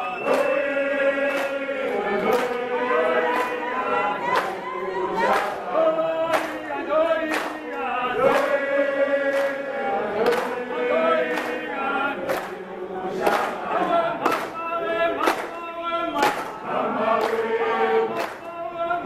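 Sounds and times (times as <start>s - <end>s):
crowd singing: 0.0s - 19.0s
rhythmic hand-clapping: 0.0s - 19.0s.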